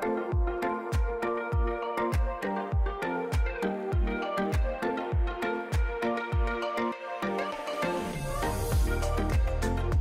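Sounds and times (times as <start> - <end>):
held chords: 0.0 - 10.0.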